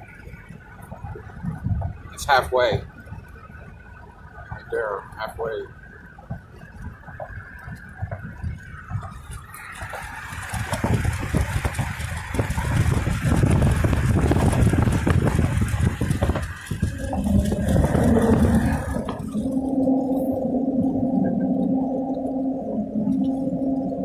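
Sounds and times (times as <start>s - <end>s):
tyre and road noise: 0.0s - 24.0s
wind buffeting through car window: 0.0s - 24.0s.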